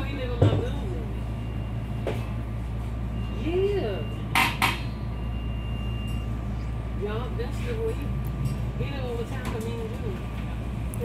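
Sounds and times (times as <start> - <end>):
rail car interior hum: 0.0 - 11.0.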